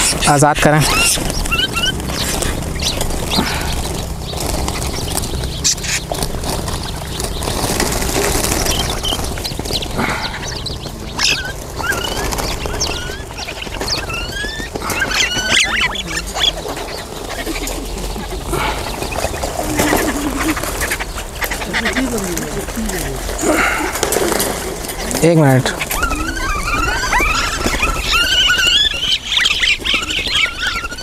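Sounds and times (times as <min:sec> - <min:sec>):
birds squawking and whistling: 0:00.0 - 0:31.0.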